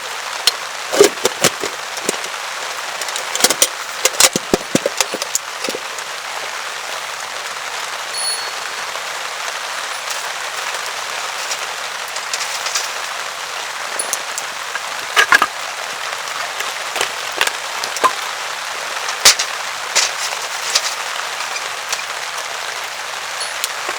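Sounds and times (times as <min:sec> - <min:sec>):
rain falling steadily: 0:00.0 - 0:23.9.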